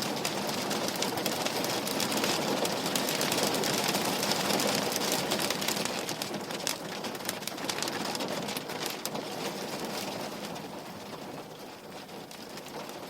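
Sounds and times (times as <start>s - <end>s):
rain on a window pane: 0.0s - 13.0s.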